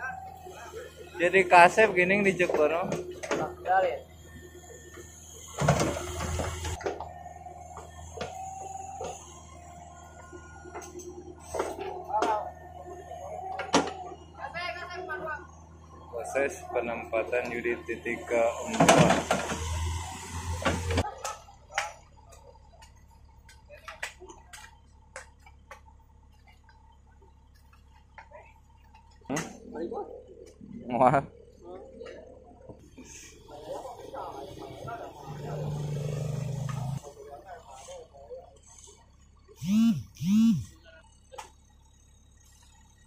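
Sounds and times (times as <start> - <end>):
excavator engine hum: 0.0 - 43.0.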